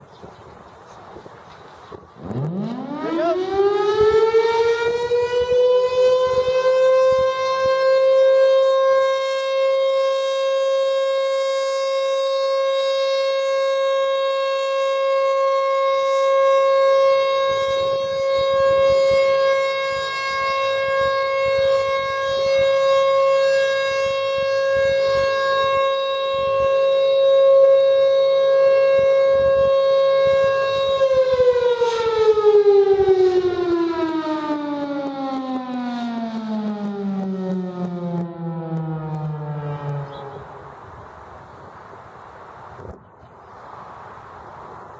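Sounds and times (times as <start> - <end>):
warning siren: 1.8 - 43.0.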